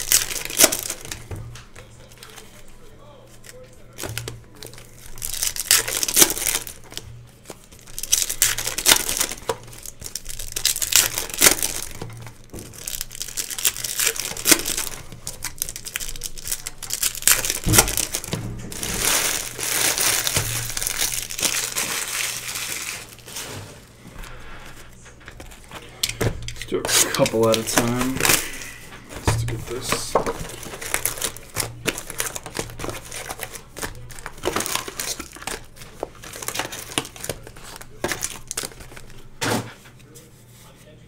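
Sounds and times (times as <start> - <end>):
packaging crinkling: 0.0 - 39.7.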